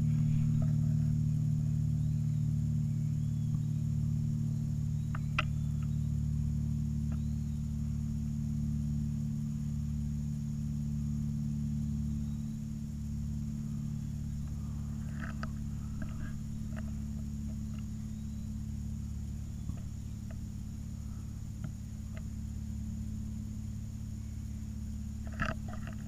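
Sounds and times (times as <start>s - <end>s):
faint high buzz: 0.0s - 26.0s
low hum: 0.0s - 26.0s.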